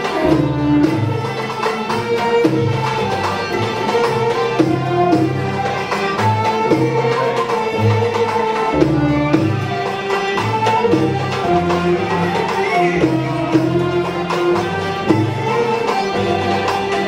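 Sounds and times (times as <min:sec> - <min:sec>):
hand drum beat: 0:00.0 - 0:17.0
violin melody: 0:00.0 - 0:17.0.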